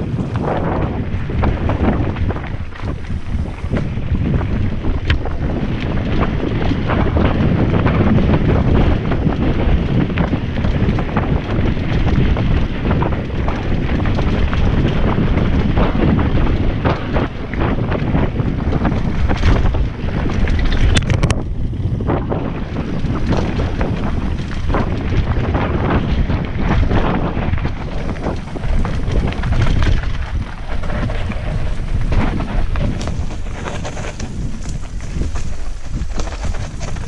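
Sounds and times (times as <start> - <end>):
bike rattling over bumps: 0.0 - 37.0
tyres rumbling over dirt: 0.0 - 37.0
wind buffeting microphone: 0.0 - 37.0.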